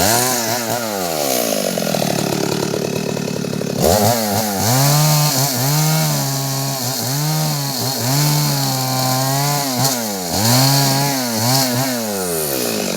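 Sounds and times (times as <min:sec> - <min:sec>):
chainsaw cutting wood: 0:00.0 - 0:12.9.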